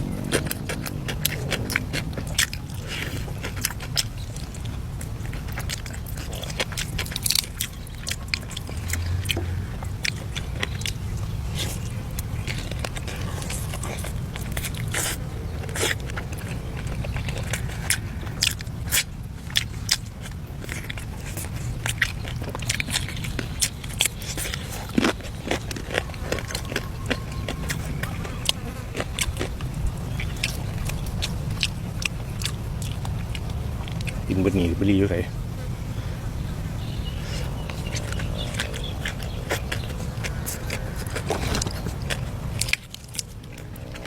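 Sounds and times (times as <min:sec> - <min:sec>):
food crunching when bitten: 0:00.0 - 0:34.4, 0:37.3 - 0:44.0
steady low hum: 0:00.0 - 0:44.0.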